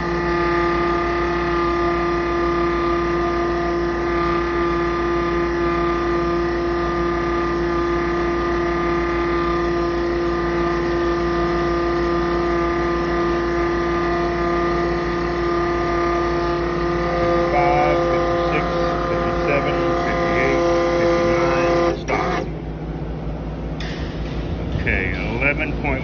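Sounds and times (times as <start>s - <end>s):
electric fuel pump humming: 0.0s - 23.9s.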